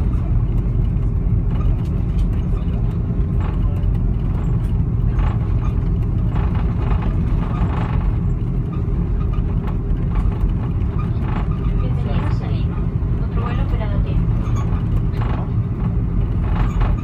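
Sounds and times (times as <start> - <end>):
airliner engine noise: 0.0 - 17.0
landing gear rolling over pavement: 0.0 - 17.0.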